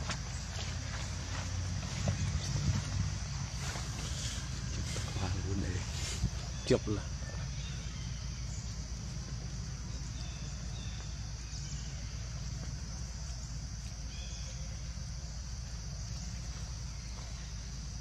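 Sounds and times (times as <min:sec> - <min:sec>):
high insect-like hiss: 0:00.0 - 0:18.0
low wind rumble: 0:00.0 - 0:18.0.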